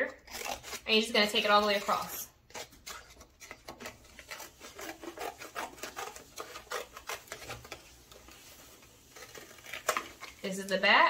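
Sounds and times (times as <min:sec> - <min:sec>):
scissors snipping paper plate: 0:00.0 - 0:08.4, 0:09.0 - 0:10.6.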